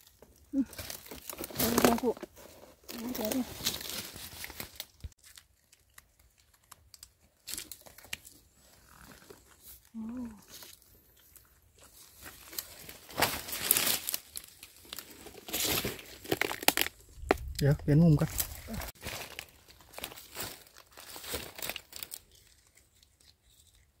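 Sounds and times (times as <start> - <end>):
dry leaves and brush crackling: 0.0 - 23.8.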